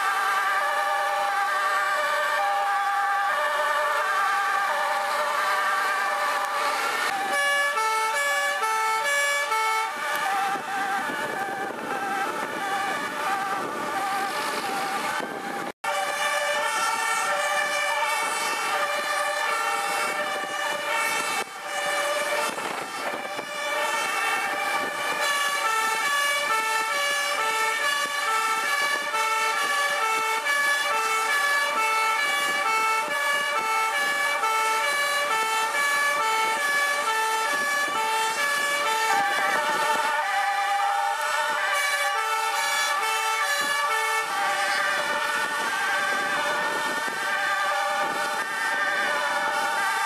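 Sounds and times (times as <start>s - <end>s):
fire engine sirens: 0.0s - 50.0s
vehicle engine and road noise: 0.0s - 50.0s.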